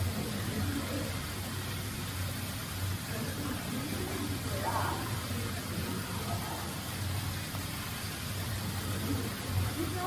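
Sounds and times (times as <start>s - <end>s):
background hiss: 0.0s - 10.0s
low machine hum: 0.0s - 10.0s.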